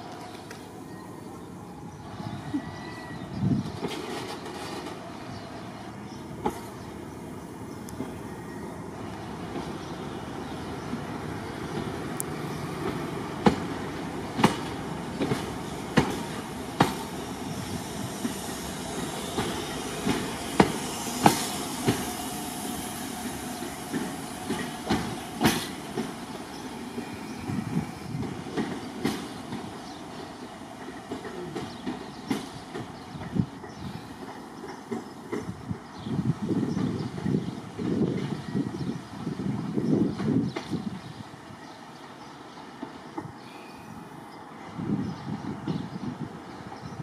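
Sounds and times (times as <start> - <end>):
train coaches rumbling past: 0.0 - 47.0.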